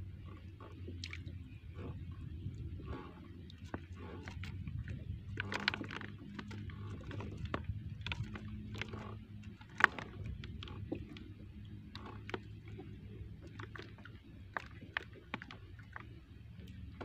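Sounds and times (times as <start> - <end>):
steady low hum: 0.0 - 17.0
taps and knocks in wooden canoe: 2.8 - 17.0.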